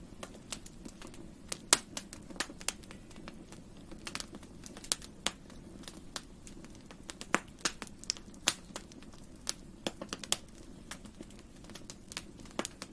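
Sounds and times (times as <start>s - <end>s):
campfire crackling: 0.0s - 12.9s.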